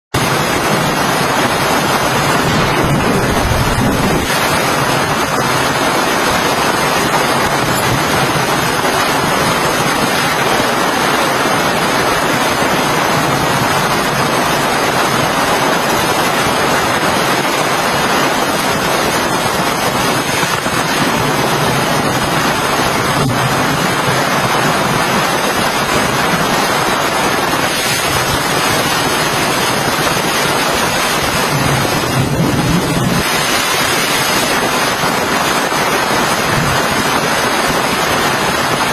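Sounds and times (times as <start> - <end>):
heavy rain: 0.1 - 38.9.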